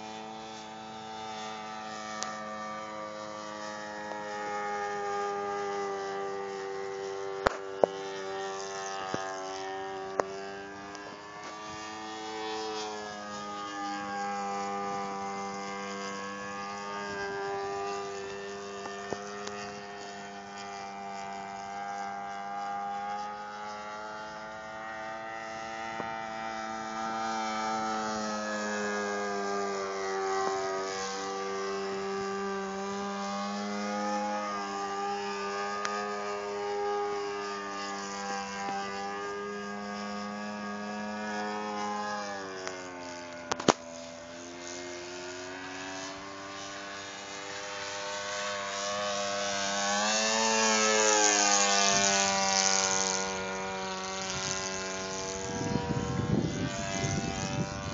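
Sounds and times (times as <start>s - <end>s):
model plane engine drone: 0.0s - 57.9s.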